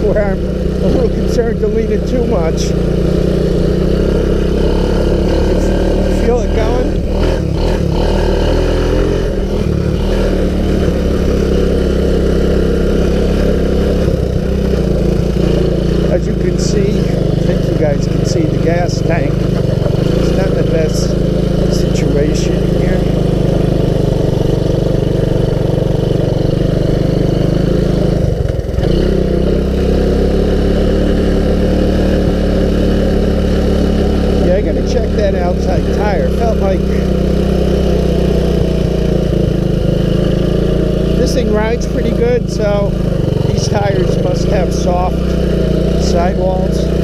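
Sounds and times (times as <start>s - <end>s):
four-stroke engine running: 0.0s - 47.0s.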